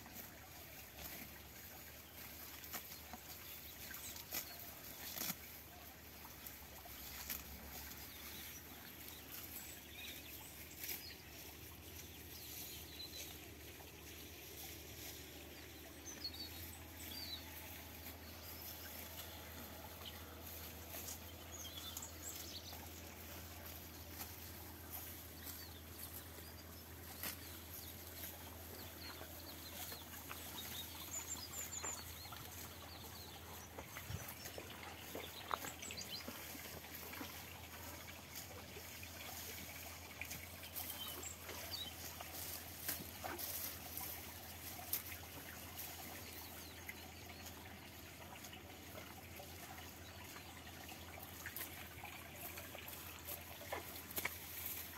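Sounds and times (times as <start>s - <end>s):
outdoor background noise: 0.0s - 54.9s
small birds chirping: 0.2s - 54.9s.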